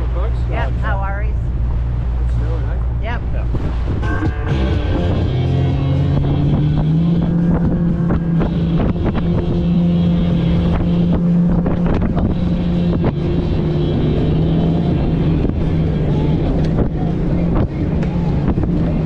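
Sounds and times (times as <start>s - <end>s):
hull slapping on choppy water: 0.0s - 19.0s
outboard motor at speed: 0.0s - 19.0s
wind buffeting microphone: 0.0s - 19.0s.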